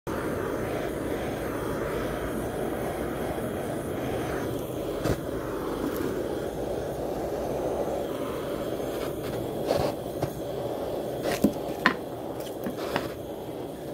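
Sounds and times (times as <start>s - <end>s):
butane torch flame jetting: 0.1s - 13.9s.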